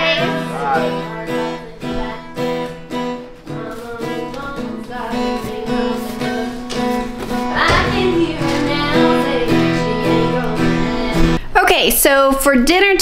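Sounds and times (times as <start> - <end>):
acoustic guitar strumming: 0.0 - 11.4.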